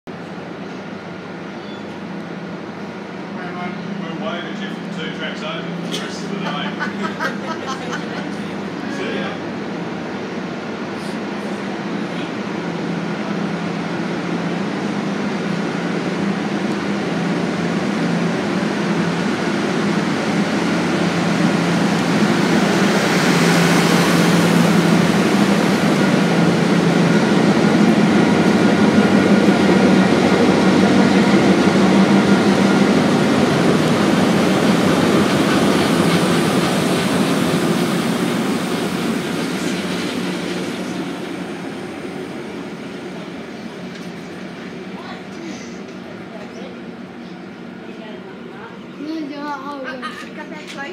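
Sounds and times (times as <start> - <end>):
locomotive hum: 0.1 - 50.9
train wheels rumbling on rail: 0.1 - 50.9.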